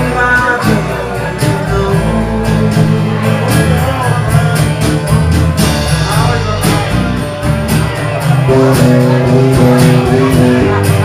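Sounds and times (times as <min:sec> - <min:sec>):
bass line: 0:00.0 - 0:11.0
live band playing: 0:00.0 - 0:11.0
strummed guitars: 0:00.0 - 0:11.0.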